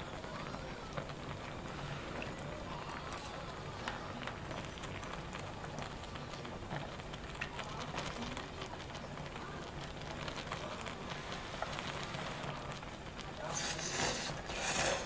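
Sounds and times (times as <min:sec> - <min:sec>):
broth simmering and bubbling: 0:00.0 - 0:15.0.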